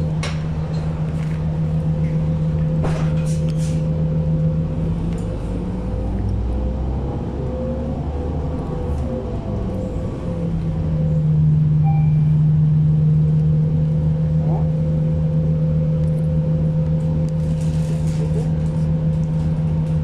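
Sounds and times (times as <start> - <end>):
bus engine and road rumble: 0.0 - 20.0
low drone: 0.0 - 20.0.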